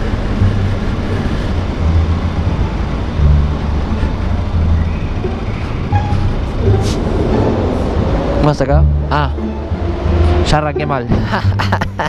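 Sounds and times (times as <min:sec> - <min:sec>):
motorcycle engine rumbling: 0:00.0 - 0:11.8.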